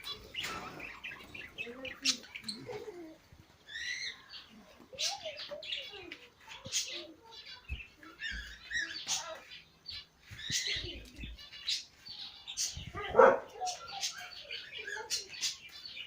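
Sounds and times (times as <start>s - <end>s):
birds chirping high notes: 0.0s - 16.0s.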